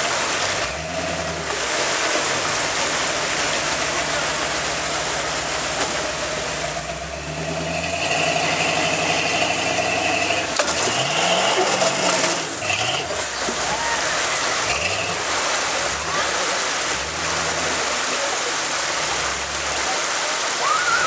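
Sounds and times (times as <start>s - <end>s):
truck engine revving: 0.0s - 20.6s
rushing waterfall: 0.0s - 21.0s.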